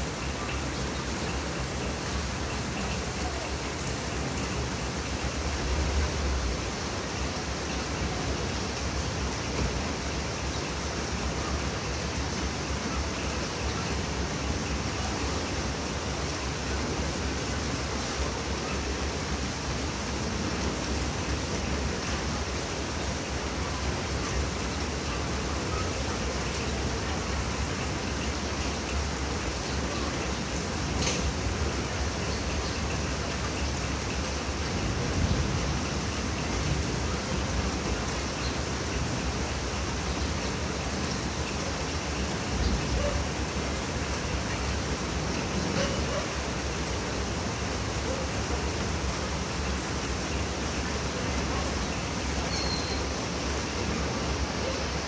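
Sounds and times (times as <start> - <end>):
floodwater rushing: 0.0 - 55.0
heavy rain: 0.0 - 55.0.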